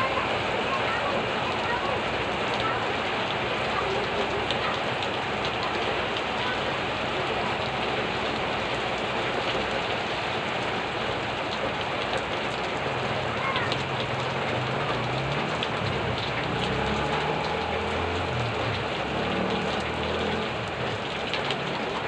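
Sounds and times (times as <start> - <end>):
heavy rain on tiled roofs: 0.0 - 22.0.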